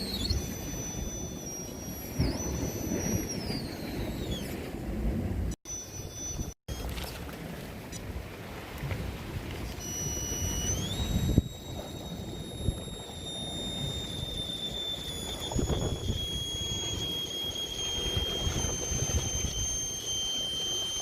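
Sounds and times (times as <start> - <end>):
electric motor whine: 0.0 - 4.9, 5.7 - 7.2, 9.5 - 21.0.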